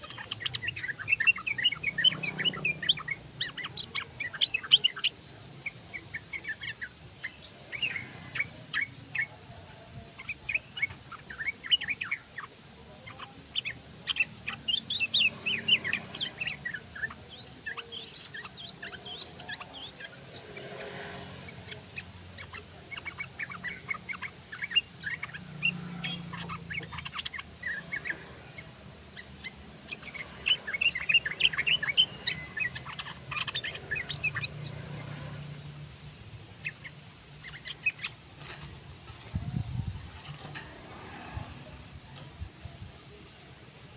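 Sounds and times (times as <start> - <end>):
bulbul singing: 0.0 - 43.9.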